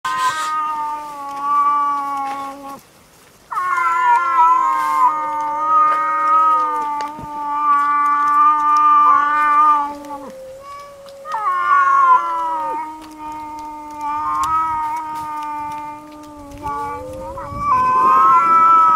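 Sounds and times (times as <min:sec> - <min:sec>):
cats yowling in a fight: 0:00.1 - 0:02.8, 0:03.5 - 0:18.9.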